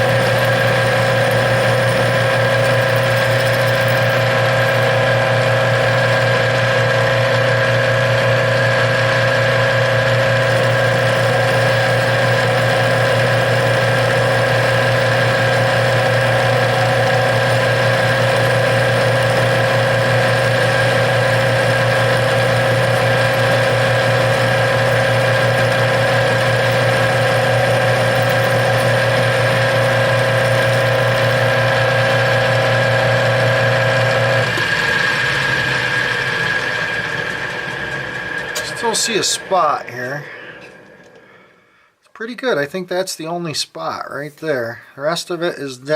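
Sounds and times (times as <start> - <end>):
metal lathe whining: 0.0 - 41.4.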